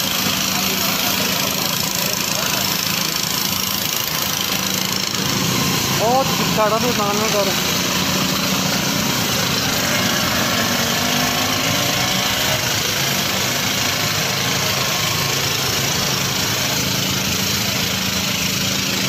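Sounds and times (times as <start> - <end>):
tanker engine running: 0.0 - 19.0.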